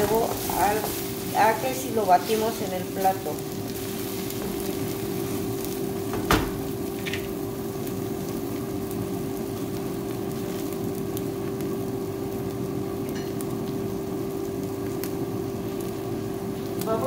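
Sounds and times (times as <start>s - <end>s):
eggs sizzling in a frying pan: 0.0s - 17.0s
steady hum: 0.0s - 17.0s.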